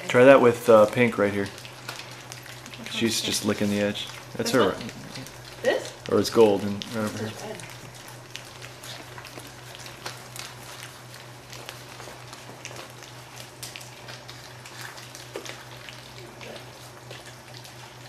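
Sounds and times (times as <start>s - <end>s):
puppies lapping food: 0.0s - 18.0s.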